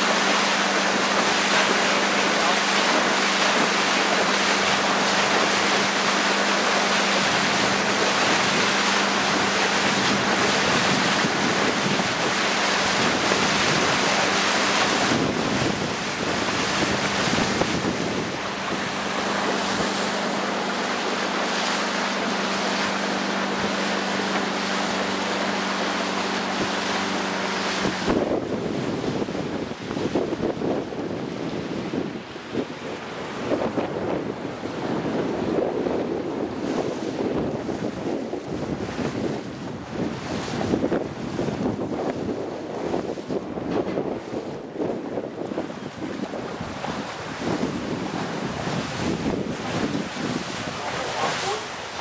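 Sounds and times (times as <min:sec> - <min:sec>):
motorboat engine drone: 0:00.0 - 0:52.0
water rushing from hull: 0:00.0 - 0:52.0
wind buffeting microphone: 0:00.0 - 0:52.0.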